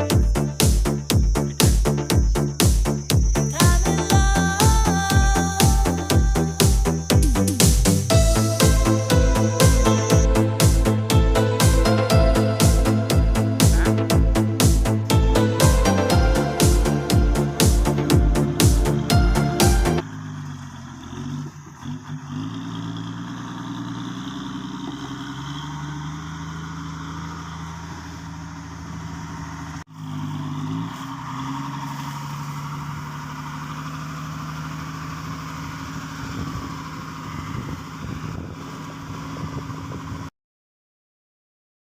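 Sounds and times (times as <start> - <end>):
heavy vehicle engine idling: 0.0 - 30.5, 31.3 - 40.3.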